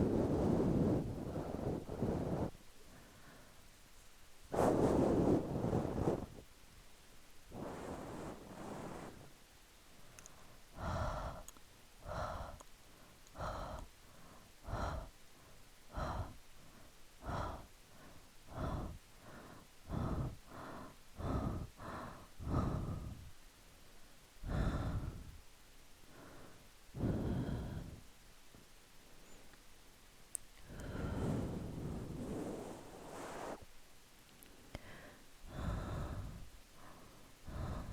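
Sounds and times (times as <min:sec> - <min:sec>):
person breathing: 0:00.0 - 0:03.7, 0:04.5 - 0:06.4, 0:07.5 - 0:23.4, 0:24.4 - 0:25.4, 0:26.0 - 0:28.2, 0:30.6 - 0:33.7, 0:34.4 - 0:37.9.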